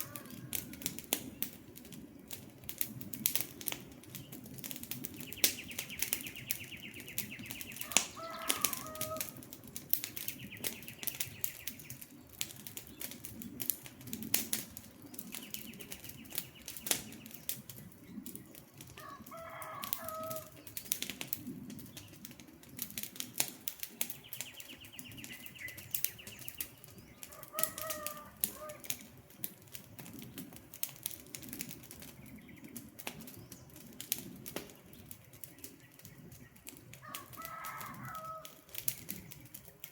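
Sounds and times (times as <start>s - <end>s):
campfire crackling and popping: 0.0s - 39.9s
low rumble of burning logs: 0.0s - 39.9s.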